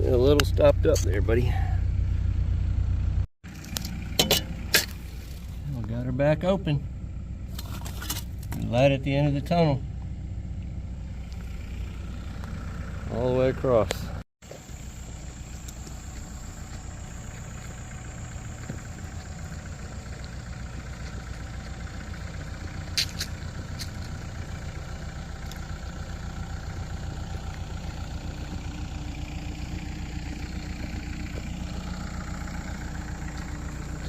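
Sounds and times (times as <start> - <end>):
excavator diesel engine idling: 0.0 - 7.6, 8.2 - 34.0.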